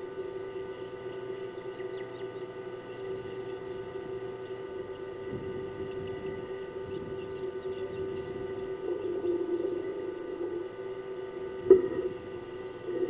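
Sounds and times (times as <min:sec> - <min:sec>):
mechanical hum: 0:00.0 - 0:13.0
small birds chirping: 0:00.0 - 0:13.0.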